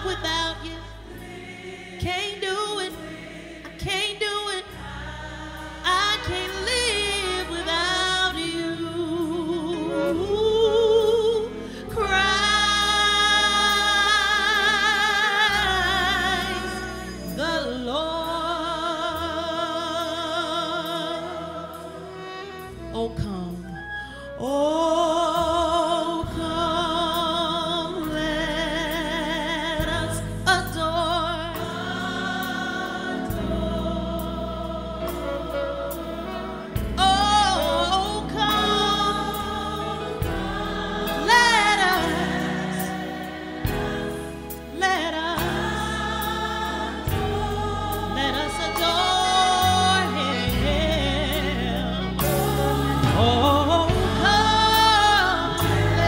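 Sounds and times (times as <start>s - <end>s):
choir singing: 0.0s - 22.9s, 27.4s - 56.0s
low accompaniment notes: 0.0s - 56.0s
woman singing gospel: 0.0s - 56.0s.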